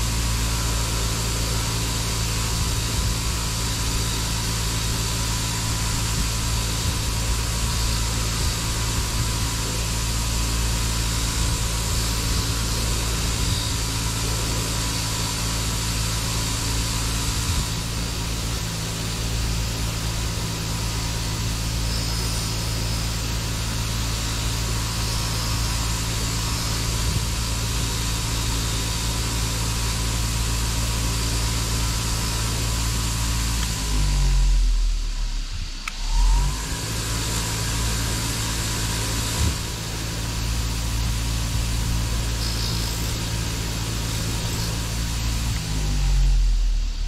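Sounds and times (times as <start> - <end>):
bench grinder humming: 0.0 - 34.8, 35.8 - 46.8.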